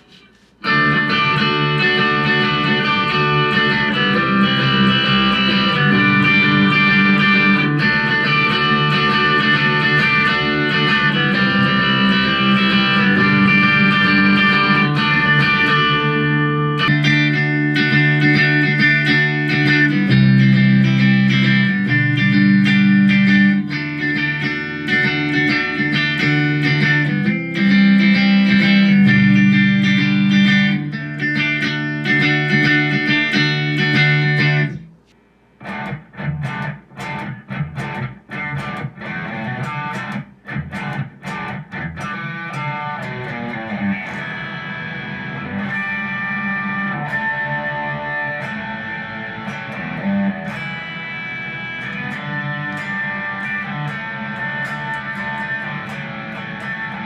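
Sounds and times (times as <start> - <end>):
electric guitar chords: 0.0 - 57.0
electric guitar picked notes: 0.0 - 57.0.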